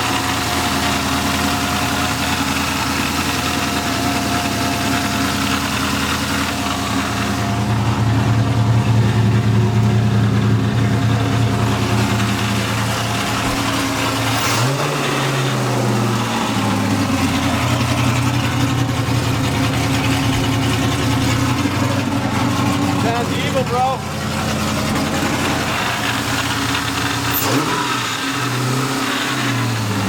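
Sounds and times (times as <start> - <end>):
race car engine idling and revving: 0.0 - 30.0.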